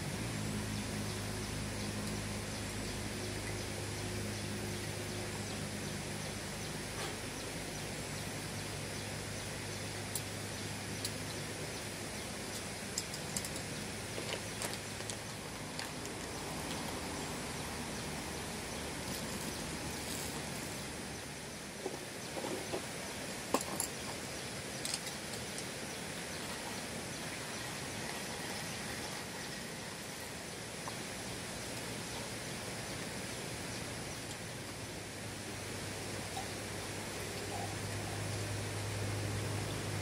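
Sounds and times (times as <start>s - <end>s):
outdoor background hiss: 0.0s - 40.0s.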